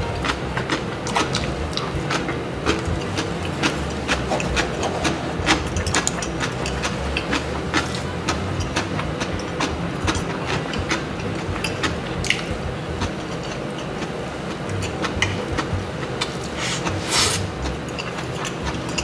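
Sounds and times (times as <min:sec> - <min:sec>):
person chewing food: 0:00.0 - 0:19.0
steady low drone: 0:00.0 - 0:19.0.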